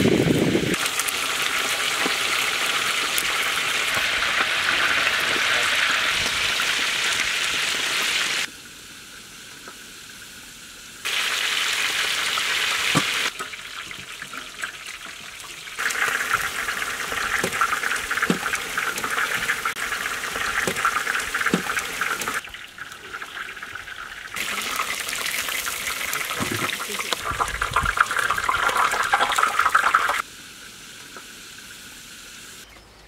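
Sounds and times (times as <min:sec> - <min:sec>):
chicken frying in hot oil: 0:00.0 - 0:32.7.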